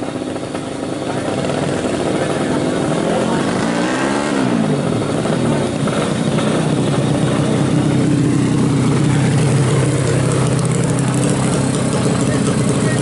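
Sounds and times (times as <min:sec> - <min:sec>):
motorbike engine idling: 0:00.0 - 0:03.7, 0:04.4 - 0:13.0.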